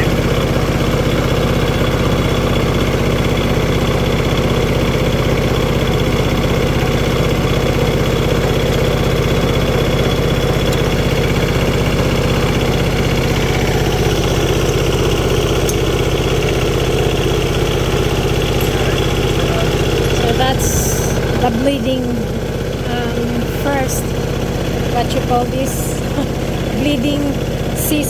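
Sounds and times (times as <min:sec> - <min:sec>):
diesel tractor engine idling: 0:00.0 - 0:28.0.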